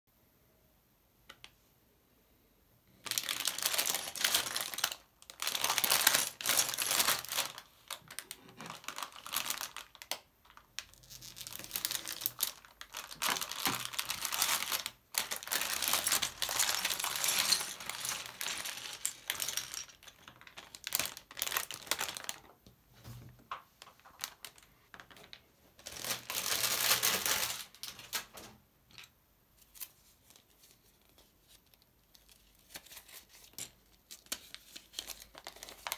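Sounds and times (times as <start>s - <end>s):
plastic bag crinkling: 3.0s - 22.6s, 23.5s - 28.4s, 31.0s - 35.9s.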